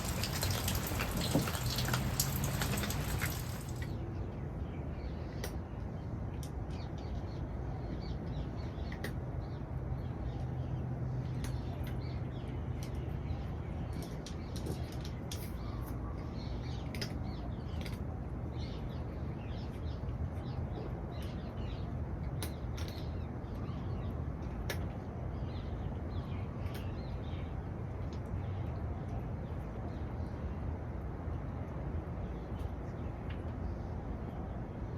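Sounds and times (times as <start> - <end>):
small birds chirping: 0.0 - 30.6.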